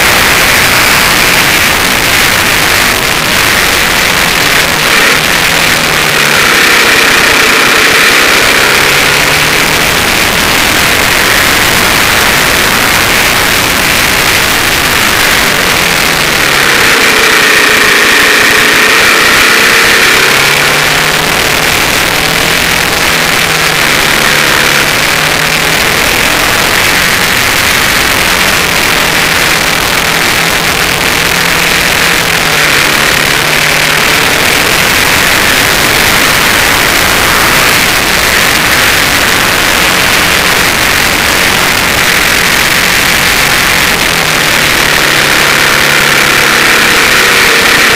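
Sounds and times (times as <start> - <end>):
motorcycle engine revving: 0.0 - 47.9
wind rush on microphone: 0.0 - 47.9.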